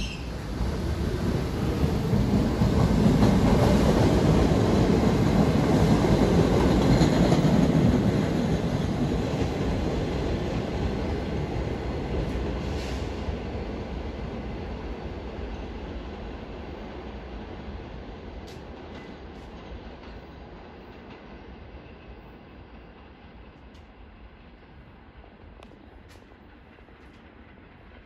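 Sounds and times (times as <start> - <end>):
subway train wheels rumbling: 0.0 - 28.0.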